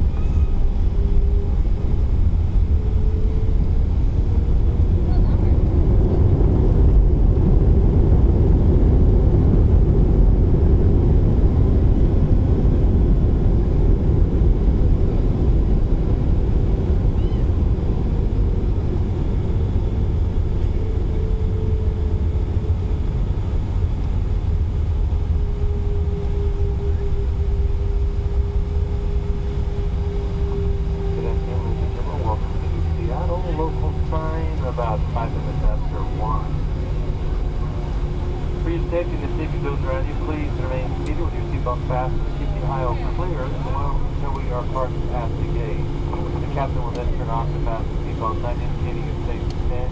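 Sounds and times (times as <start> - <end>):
airplane cabin low rumble: 0.0 - 49.9
steady jet whine: 0.0 - 49.9.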